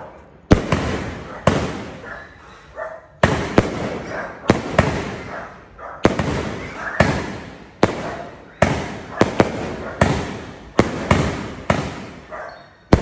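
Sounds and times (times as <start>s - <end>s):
firework shells banging: 0.4s - 2.4s, 3.2s - 5.4s, 6.0s - 13.0s.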